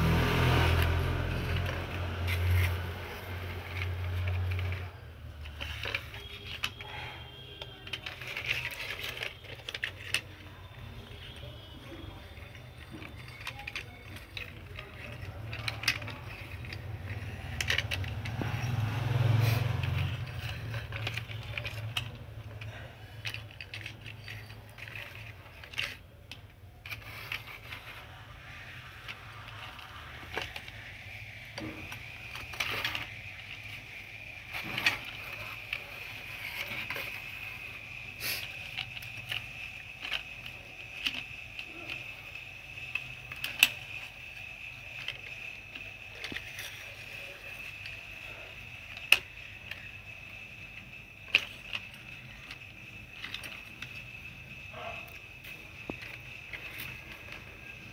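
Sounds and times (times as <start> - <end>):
plastic toys on concrete floor: 0.0 - 57.9.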